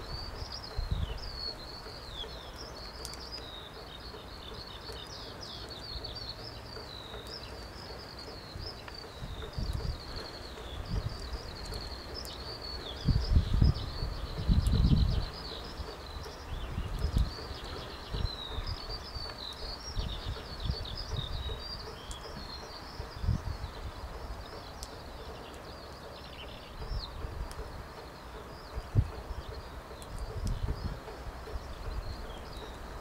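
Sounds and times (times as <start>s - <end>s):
small bird singing: 0.0s - 33.0s
wind buffeting microphone: 0.0s - 33.0s.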